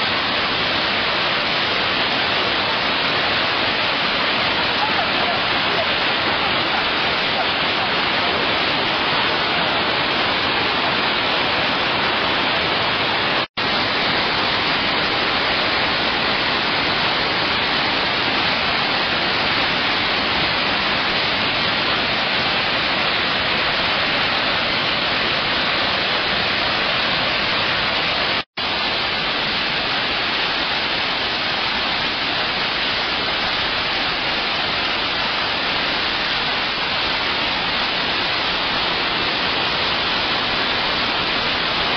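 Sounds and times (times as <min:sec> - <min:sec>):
roar of falling water: 0:00.0 - 0:41.9.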